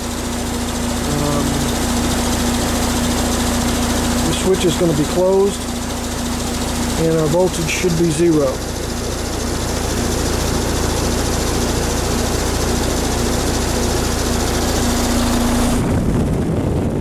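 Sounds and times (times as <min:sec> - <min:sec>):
low compressor hum: 0:00.0 - 0:17.0
rush of air from heat pump: 0:00.0 - 0:17.0.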